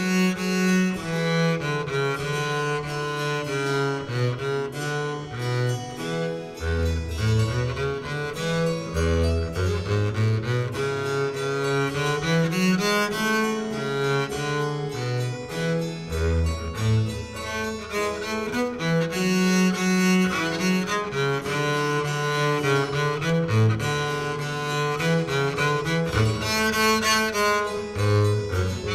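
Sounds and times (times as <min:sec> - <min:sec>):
cello string music: 0:00.0 - 0:28.9.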